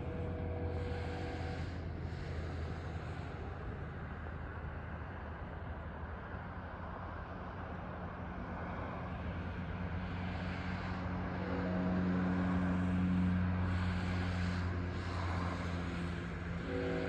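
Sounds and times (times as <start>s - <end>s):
low engine hum: 0.0s - 17.0s
road traffic noise: 0.0s - 17.0s.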